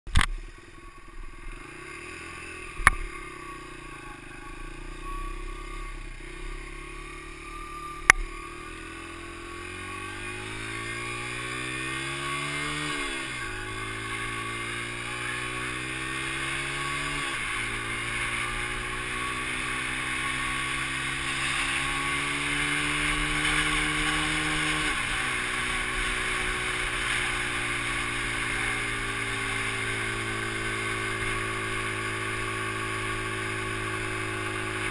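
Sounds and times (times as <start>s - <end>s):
dirt bike engine accelerating: 0.1s - 34.9s
road and wind noise: 0.1s - 34.9s.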